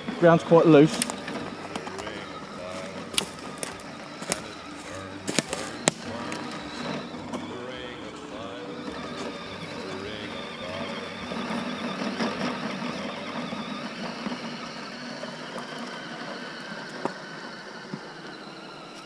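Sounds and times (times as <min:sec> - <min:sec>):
electric motor whirring: 0:00.0 - 0:19.0.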